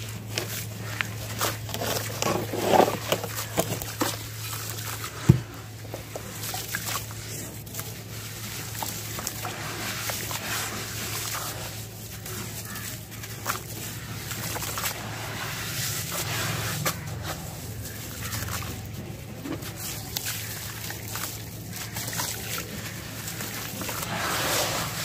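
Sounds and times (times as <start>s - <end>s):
hands squeezing wet sand: 0.0s - 25.0s.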